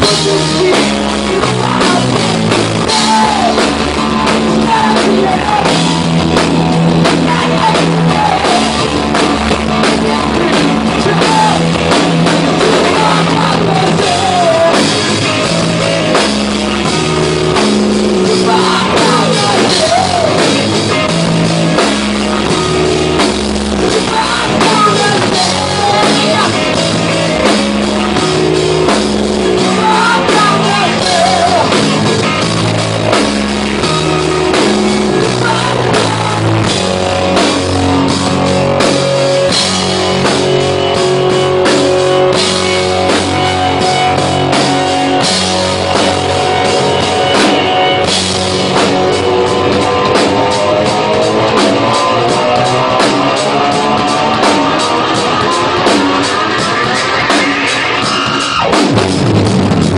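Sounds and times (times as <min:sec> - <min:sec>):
person singing: 0:00.0 - 0:16.0, 0:18.2 - 0:21.3, 0:23.8 - 0:32.4, 0:33.7 - 0:58.8
bass guitar: 0:00.0 - 0:59.9
drum kit: 0:00.0 - 0:59.9
electric guitars: 0:00.0 - 0:59.9.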